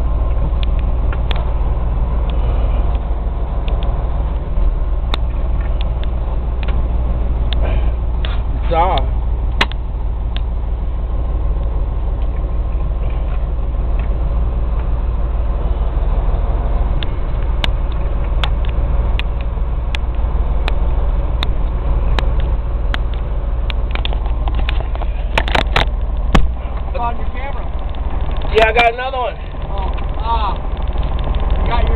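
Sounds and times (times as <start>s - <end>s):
diesel truck engine rumbling: 0.0s - 31.9s.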